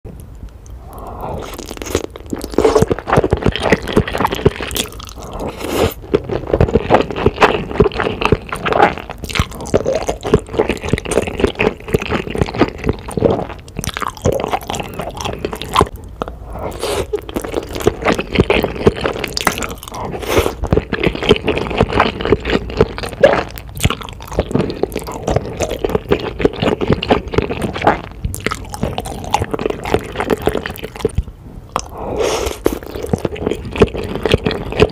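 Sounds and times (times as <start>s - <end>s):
slurping and chewing noodles: 0.7s - 34.9s.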